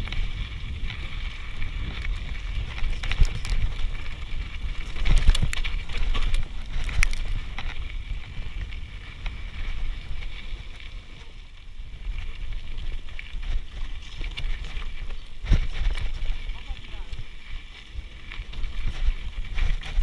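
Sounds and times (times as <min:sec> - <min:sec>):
bike rattles and knocks on stones: 0:00.0 - 0:20.0
wind rumbling on microphone: 0:00.0 - 0:20.0.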